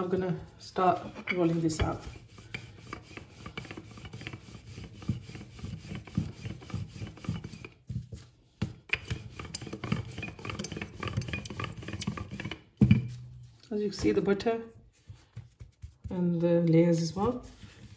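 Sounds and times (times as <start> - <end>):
rolling pin rolling dough: 0.0 - 17.9.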